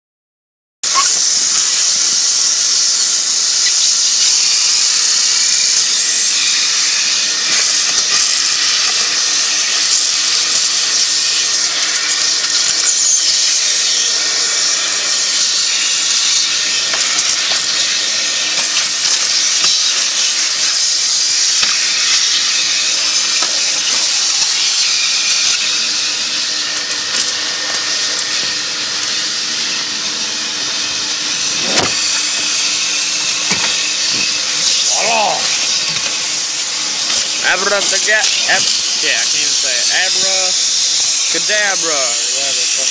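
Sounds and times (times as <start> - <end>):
vacuum cleaner running: 0.9 - 42.9.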